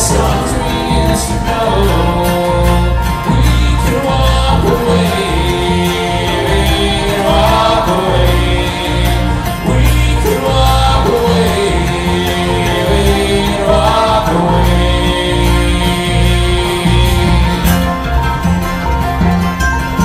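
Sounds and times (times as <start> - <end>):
acoustic guitar: 0.0 - 20.0
banjo: 0.0 - 20.0
mandolin: 0.0 - 20.0
upright bass: 0.0 - 20.0.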